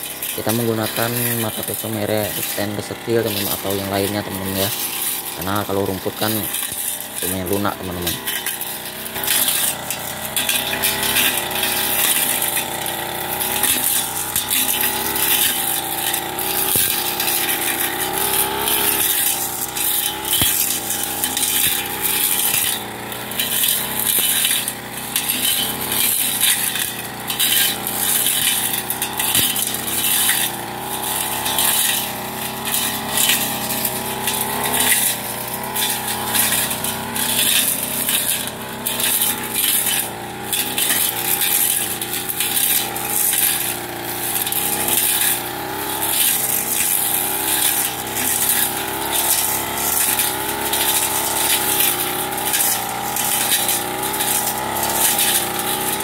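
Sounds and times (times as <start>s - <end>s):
blade striking stems: 0.0s - 56.0s
brush cutter engine running: 0.0s - 56.0s.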